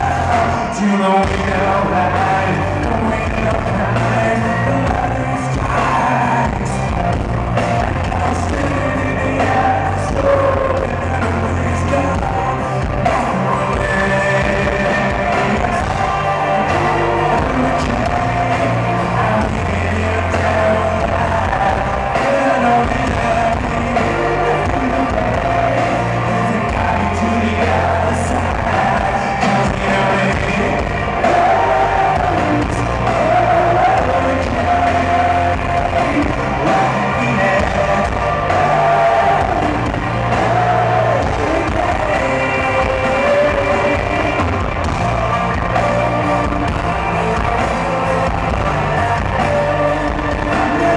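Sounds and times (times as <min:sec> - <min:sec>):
bass guitar: 0:00.0 - 0:50.9
distorted electric guitars: 0:00.0 - 0:50.9
drums: 0:00.0 - 0:50.9
man singing: 0:00.0 - 0:50.9.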